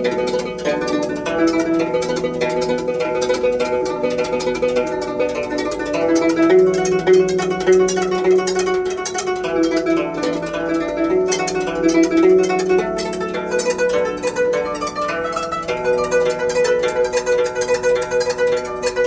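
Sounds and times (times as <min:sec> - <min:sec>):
zither plucked notes: 0:00.0 - 0:19.0.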